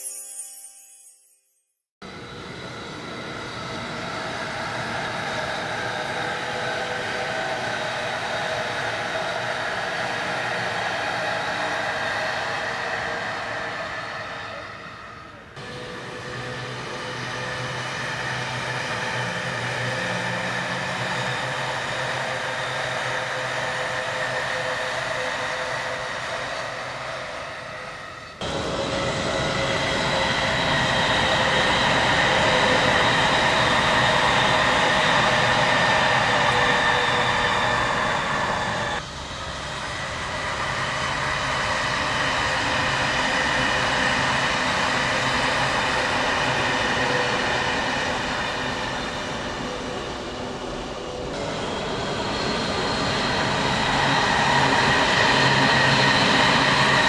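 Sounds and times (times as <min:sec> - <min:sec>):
electric train rumbling: 0:02.0 - 0:57.0
whining train motor: 0:02.0 - 0:57.0.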